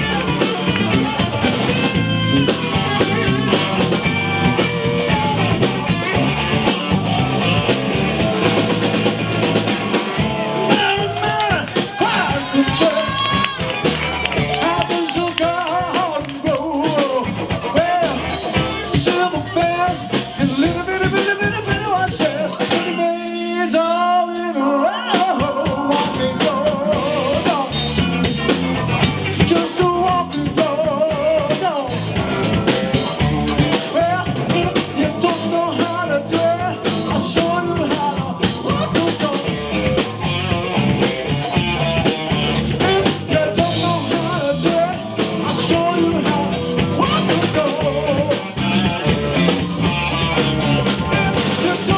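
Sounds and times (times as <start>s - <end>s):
man singing: 0.0s - 8.7s, 10.6s - 51.9s
drums: 0.0s - 51.9s
electric bass: 0.0s - 51.9s
electric guitar: 0.0s - 51.9s.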